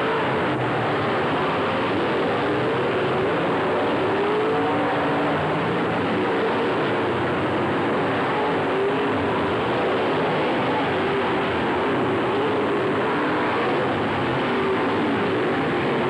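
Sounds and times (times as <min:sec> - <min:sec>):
race car engines at speed: 0:00.0 - 0:16.0.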